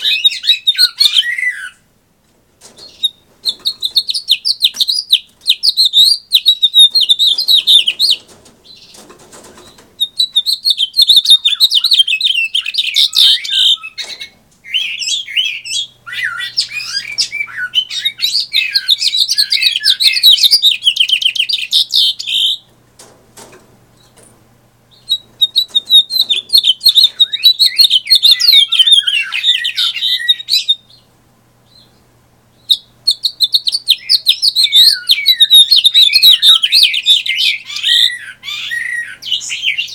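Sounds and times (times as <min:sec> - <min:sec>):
finch singing: 0:00.0 - 0:01.8, 0:02.8 - 0:22.7, 0:24.9 - 0:31.1, 0:31.7 - 0:39.9.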